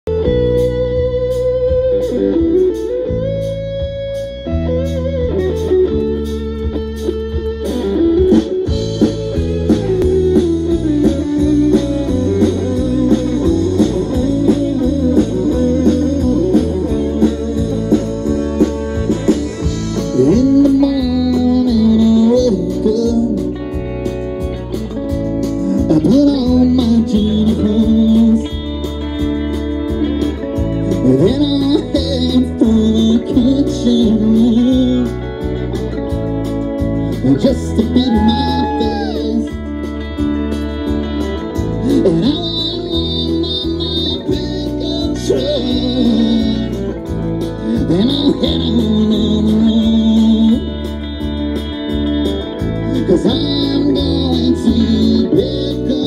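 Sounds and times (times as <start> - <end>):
bass guitar: 0.0 - 56.0
electric lead guitar: 0.0 - 56.0
steady drums: 0.0 - 56.0.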